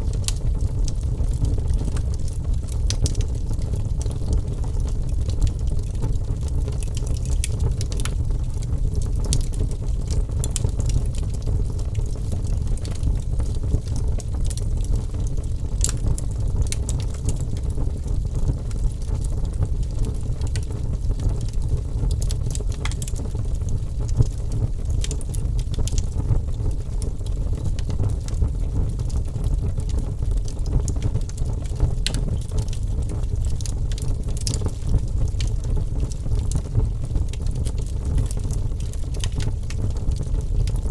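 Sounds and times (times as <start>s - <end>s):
fire crackles and pops: 0.0s - 40.9s
wood fire rumbling: 0.0s - 40.9s.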